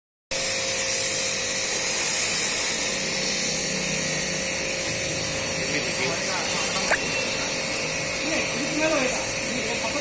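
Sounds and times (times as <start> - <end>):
pressure washer motor whine: 0.3 - 10.0.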